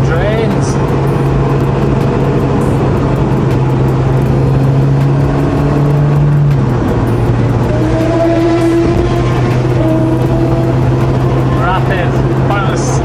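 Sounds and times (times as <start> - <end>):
car engine running at mid revs: 0.0 - 13.0.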